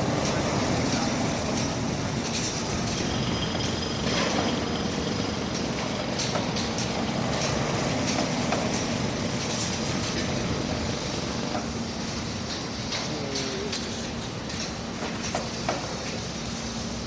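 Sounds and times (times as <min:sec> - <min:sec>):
heavy machinery rumble: 0:00.0 - 0:17.0
metal clanks and knocks: 0:00.2 - 0:11.8, 0:12.4 - 0:16.3.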